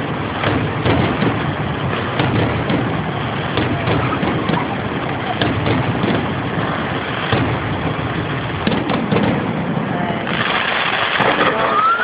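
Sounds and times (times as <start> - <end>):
firework bangs and crackling: 0.0 - 12.0
fireworks hissing: 0.0 - 12.0.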